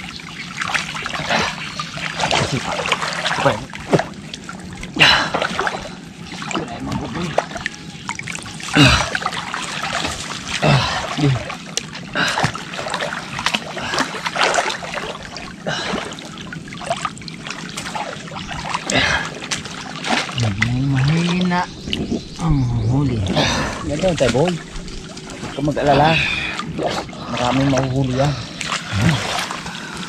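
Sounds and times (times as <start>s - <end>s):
people wading through water: 0.0s - 30.0s.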